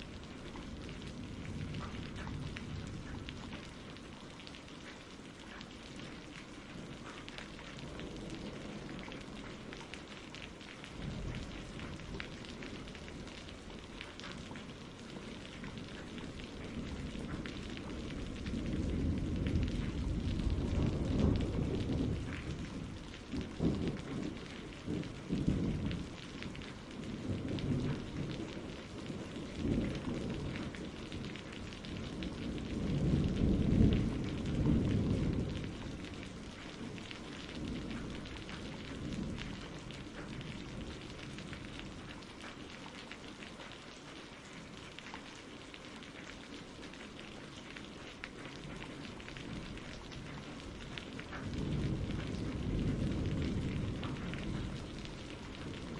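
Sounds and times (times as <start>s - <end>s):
rolling thunder: 0.0s - 4.1s, 6.8s - 42.2s, 48.5s - 55.9s
steady rain: 0.0s - 55.9s.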